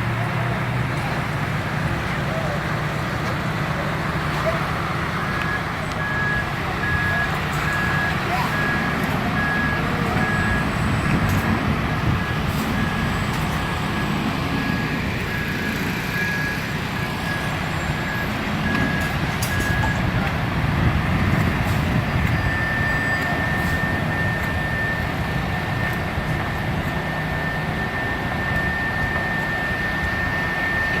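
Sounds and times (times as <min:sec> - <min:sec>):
diesel engine running: 0:00.0 - 0:31.0
reversing alarm beeping: 0:05.0 - 0:20.3, 0:21.4 - 0:31.0.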